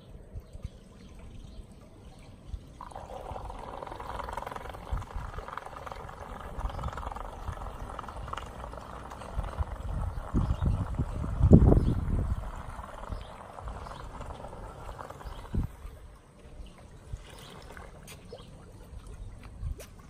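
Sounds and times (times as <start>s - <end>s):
pool cleaner water splashing: 0.0s - 20.0s.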